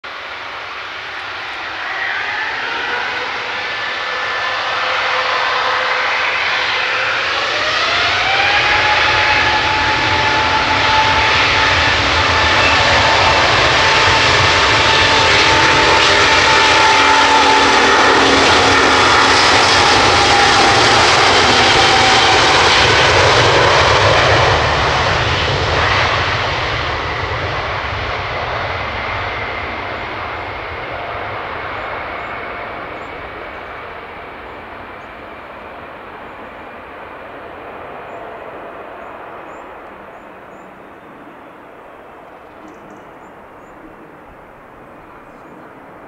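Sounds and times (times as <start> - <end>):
jet engines at take-off: 0.0 - 46.0.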